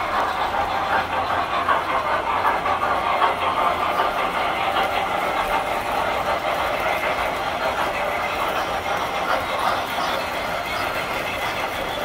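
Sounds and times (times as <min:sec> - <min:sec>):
model train motor whirring: 0:00.0 - 0:12.0
wheels ticking over rails: 0:00.0 - 0:12.0.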